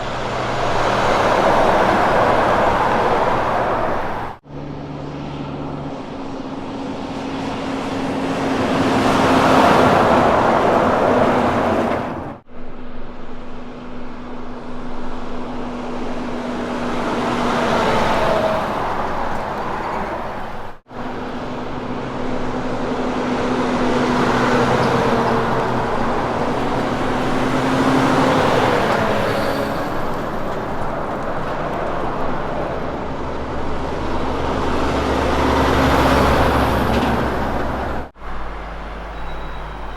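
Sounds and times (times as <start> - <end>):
diesel trucks droning past: 0.0 - 39.9
tyre and road noise: 0.0 - 39.9.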